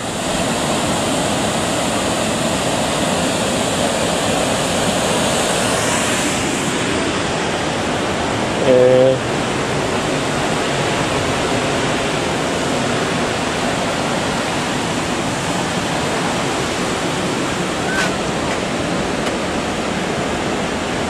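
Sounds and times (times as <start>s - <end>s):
waterfall and rapids rushing: 0.0s - 21.0s.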